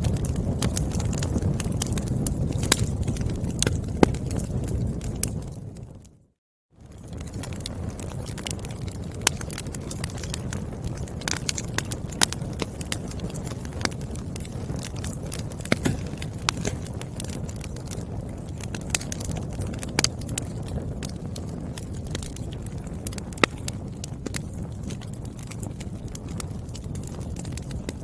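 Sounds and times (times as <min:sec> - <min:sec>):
wood fire crackling: 0:00.0 - 0:06.2, 0:06.8 - 0:28.0.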